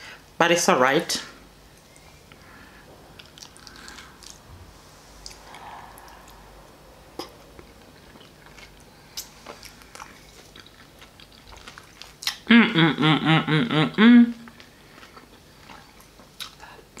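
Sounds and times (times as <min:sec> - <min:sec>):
person chewing crisp salad: 0:01.7 - 0:13.0, 0:14.3 - 0:17.0.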